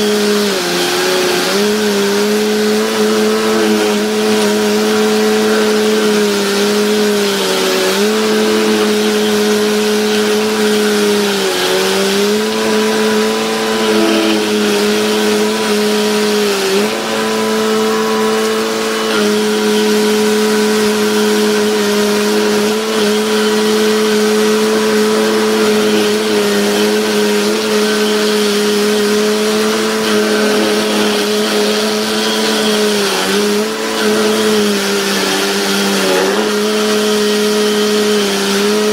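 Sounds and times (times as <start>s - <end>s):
cutter wheel grinding wood: 0.0s - 38.9s
stump grinder engine running: 0.0s - 38.9s.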